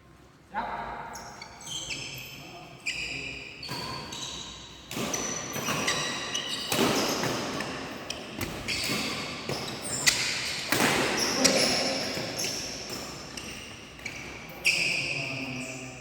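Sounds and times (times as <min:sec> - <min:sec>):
shoes squeaking on court floor: 0:01.1 - 0:16.0.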